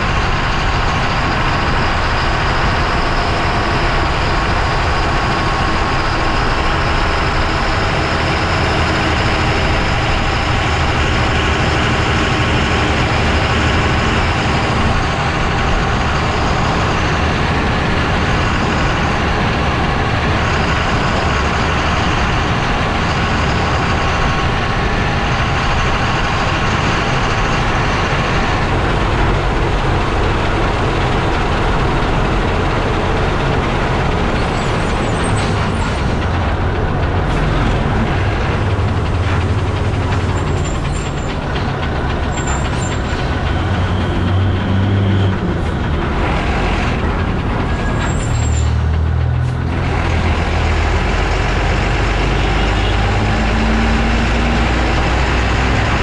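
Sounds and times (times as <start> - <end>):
lorry engine: 0.0 - 56.0
road noise: 0.0 - 56.0.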